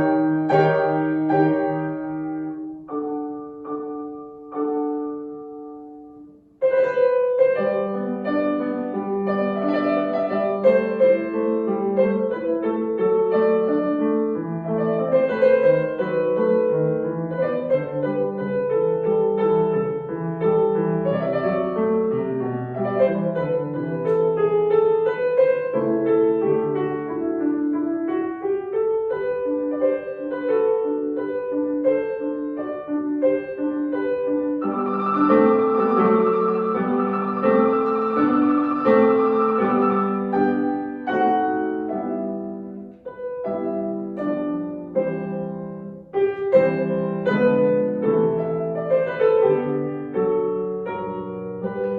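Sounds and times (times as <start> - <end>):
solo piano piece: 0.0 - 51.9.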